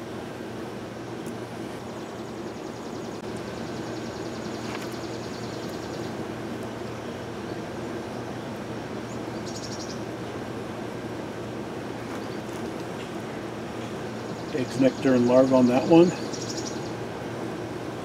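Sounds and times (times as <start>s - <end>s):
honeybees humming: 0.0s - 18.0s.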